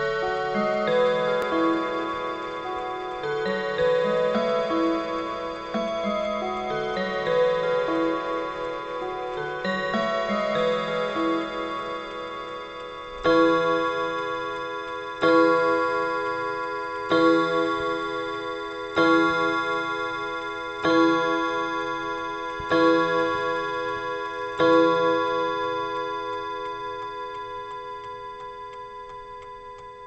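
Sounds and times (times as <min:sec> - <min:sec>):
clock chime tune: 0:00.0 - 0:30.0
clock striking the hour: 0:00.0 - 0:30.0.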